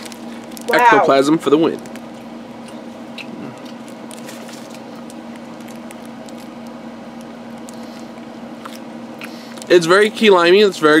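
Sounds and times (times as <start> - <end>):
people chewing: 0.0 - 9.7
steady hum: 0.0 - 11.0.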